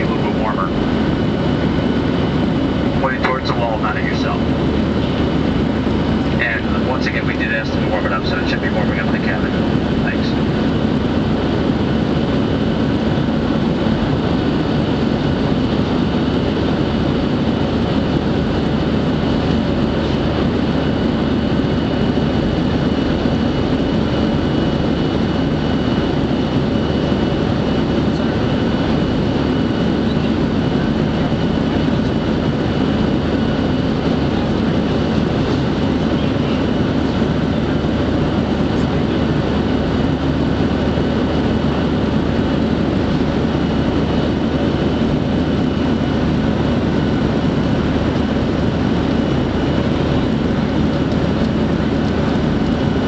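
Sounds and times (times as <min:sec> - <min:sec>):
engine and airflow rush: 0:00.0 - 0:53.0.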